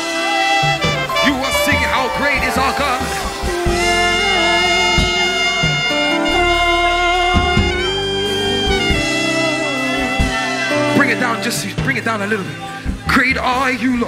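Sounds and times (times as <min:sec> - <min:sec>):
sustained chords: 0:00.0 - 0:13.5
electric bass guitar: 0:00.0 - 0:14.0.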